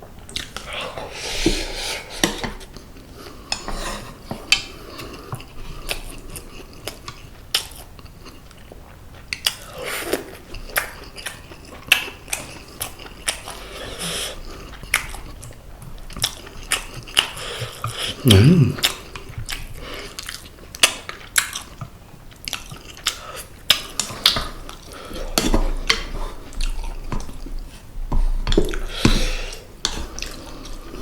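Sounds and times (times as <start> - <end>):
close chewing and biting: 0.3 - 0.8, 2.2 - 31.0.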